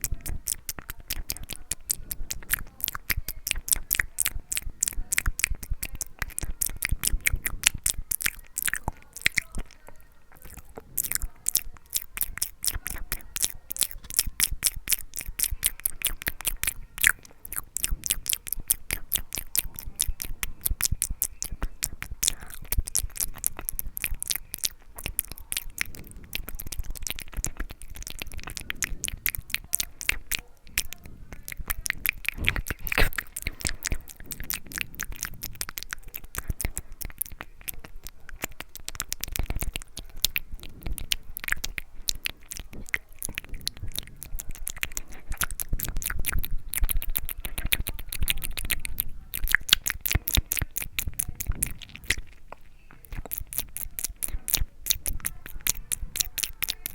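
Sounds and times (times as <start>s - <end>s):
mouth clicks and smacks: 0.0s - 56.9s.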